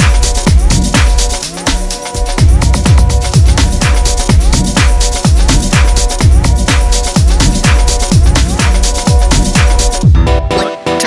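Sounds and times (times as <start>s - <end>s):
booming kick drum: 0.0s - 10.4s
held synth chords: 0.0s - 10.6s
electronic dance music: 0.0s - 11.0s.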